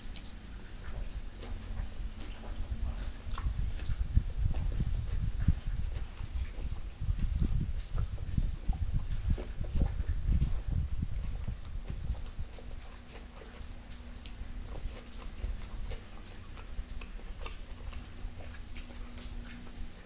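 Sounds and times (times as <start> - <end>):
chewing and lip-smacking: 0.0 - 20.0.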